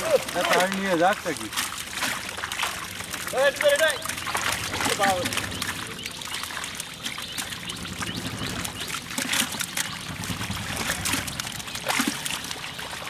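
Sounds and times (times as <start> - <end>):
pond water trickling: 0.0 - 13.0
short sharp splashes: 0.0 - 13.0.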